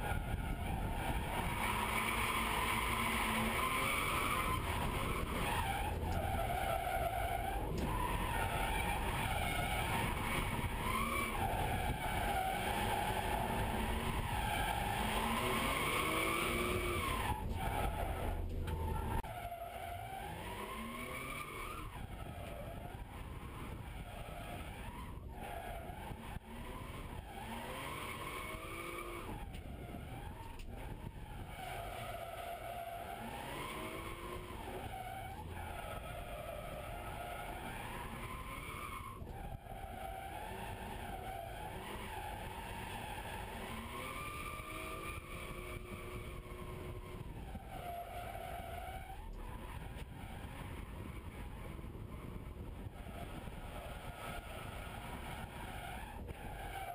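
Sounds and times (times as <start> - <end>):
car engine revving: 0.0 - 56.9
tyres skidding: 0.0 - 56.9.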